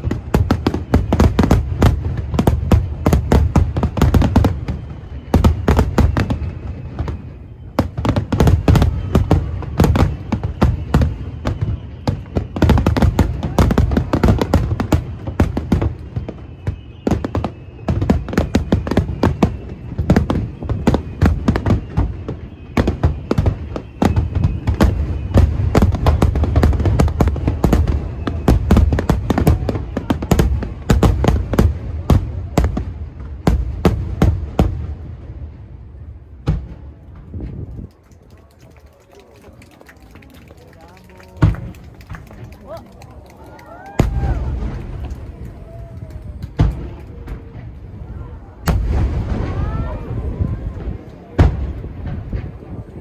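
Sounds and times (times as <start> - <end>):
firework bangs and crackles: 0.0 - 53.0.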